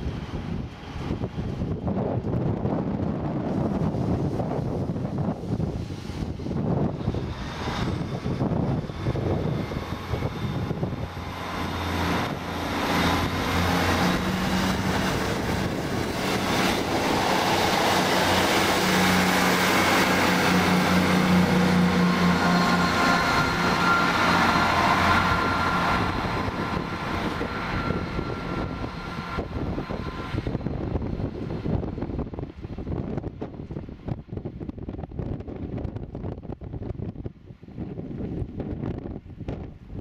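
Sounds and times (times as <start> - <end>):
diesel train engine hum: 0.0 - 40.0
rail and wheel noise: 0.0 - 40.0.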